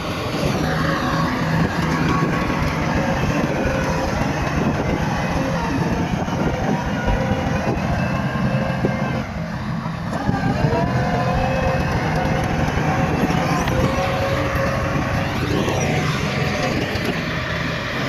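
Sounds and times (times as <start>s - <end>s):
bulldozer engine rumbling under load: 0.0s - 18.0s
pitched hydraulic whine: 0.0s - 18.0s.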